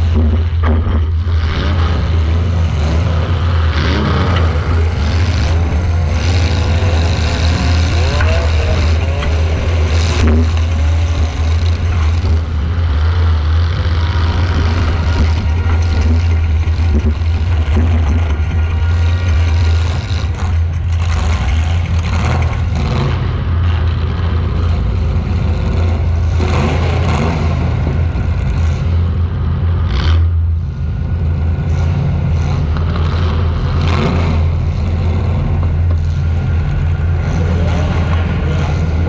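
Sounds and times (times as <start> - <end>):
car engine running loud: 0.0 - 39.0.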